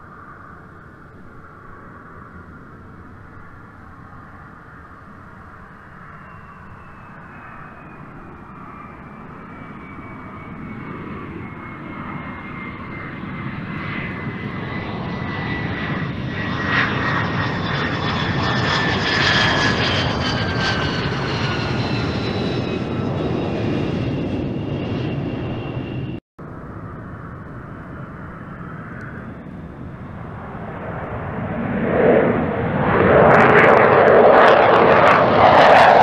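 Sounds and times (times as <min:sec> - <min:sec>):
jet engine whine and roar: 0:00.0 - 0:36.0.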